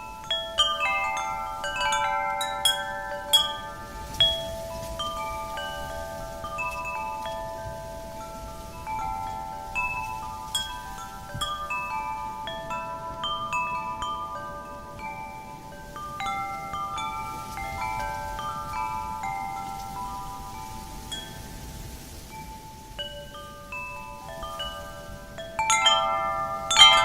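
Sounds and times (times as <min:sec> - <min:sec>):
faint wind rush: 0:00.0 - 0:27.0
metal wind chimes ringing: 0:00.0 - 0:27.0.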